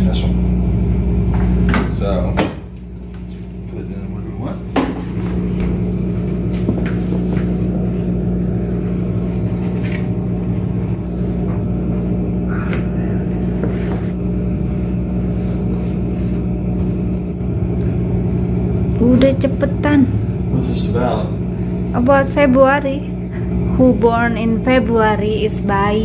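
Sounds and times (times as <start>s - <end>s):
washing machine hum: 0.0s - 26.0s.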